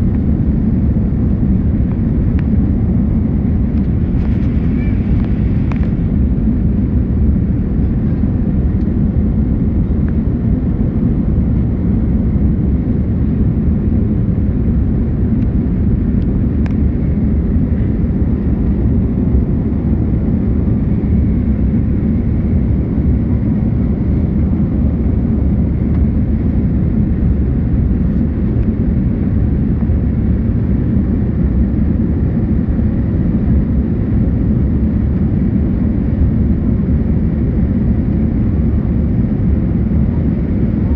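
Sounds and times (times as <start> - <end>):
jet engines during takeoff: 0.0 - 40.9.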